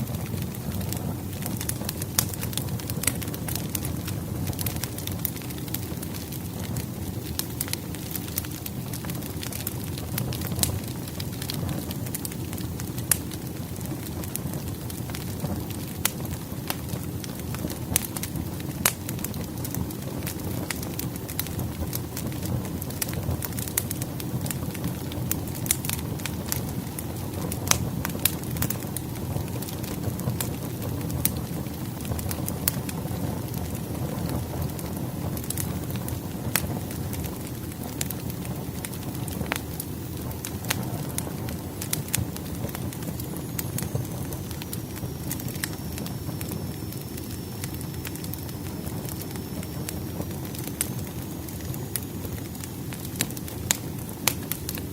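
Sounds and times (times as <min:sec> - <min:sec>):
logs crackling and popping: 0:00.0 - 0:54.9
low rumble of flames: 0:00.0 - 0:54.9.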